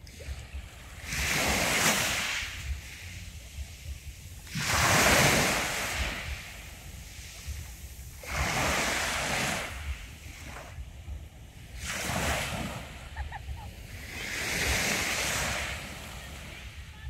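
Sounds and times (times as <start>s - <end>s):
small waves breaking on beach: 0.0s - 17.0s
wind rumble on microphone: 0.0s - 17.0s.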